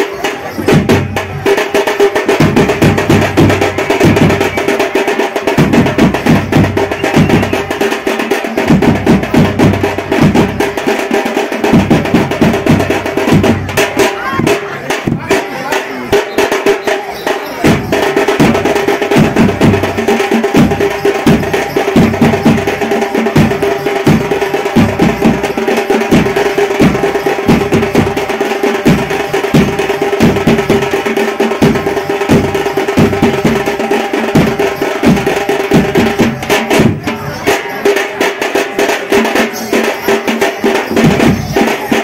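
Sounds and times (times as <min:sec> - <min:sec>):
fast folk drumming: 0:00.0 - 0:42.0.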